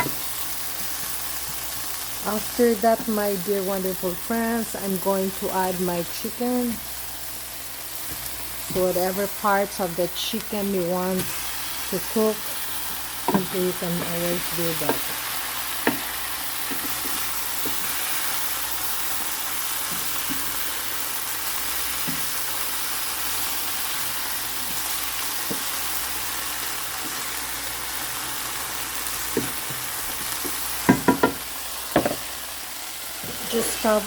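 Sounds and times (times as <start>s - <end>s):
chicken sizzling in a pot: 0.0s - 34.0s.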